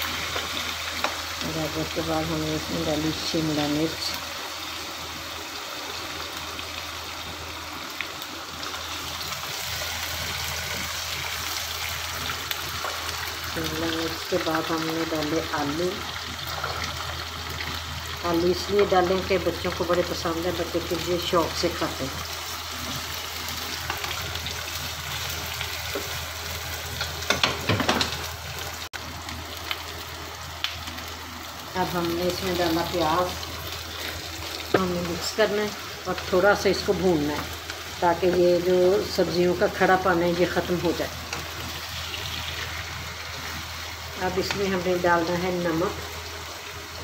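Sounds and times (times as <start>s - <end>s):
vegetables sizzling in a pan: 0.0s - 47.0s.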